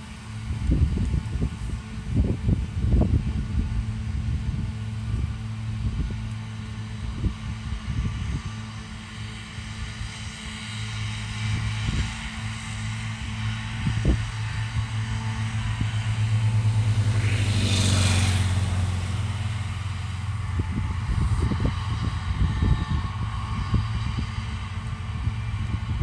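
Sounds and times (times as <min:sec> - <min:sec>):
low rumbles: 0:00.0 - 0:26.0
tractor diesel engine running: 0:00.0 - 0:26.0.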